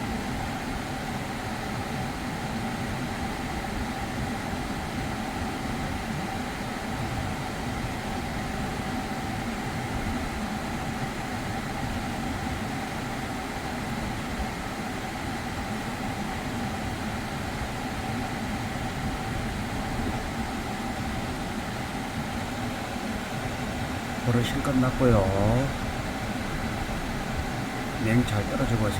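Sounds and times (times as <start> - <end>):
air conditioning mechanical hum: 0.0 - 28.9.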